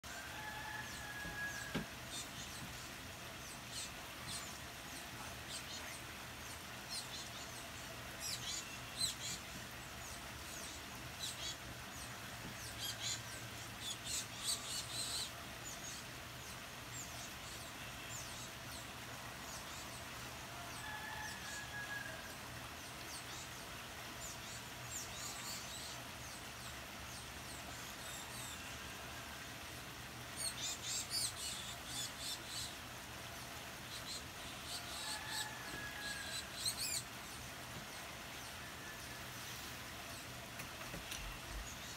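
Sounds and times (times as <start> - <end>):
birds chirping: 0.0 - 41.9
faint steady hum: 0.0 - 41.9.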